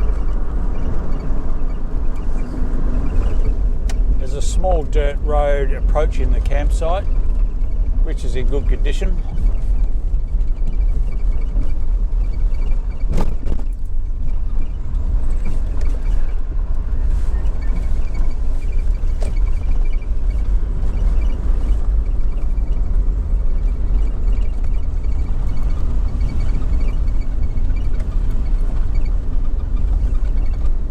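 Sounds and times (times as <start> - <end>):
vehicle engine and tyres rumbling: 0.0 - 30.9.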